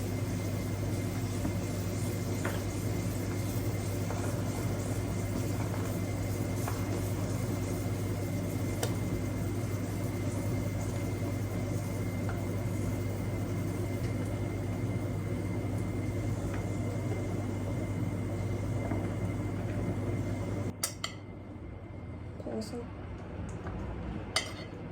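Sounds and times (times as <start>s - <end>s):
microwave oven humming: 0.0s - 24.9s.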